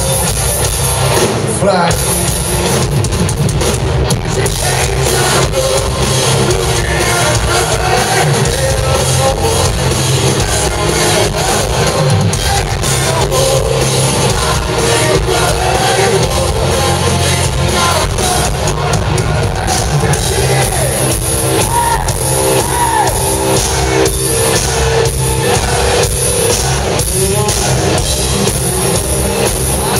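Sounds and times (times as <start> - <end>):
live hard rock band: 0.0 - 29.9.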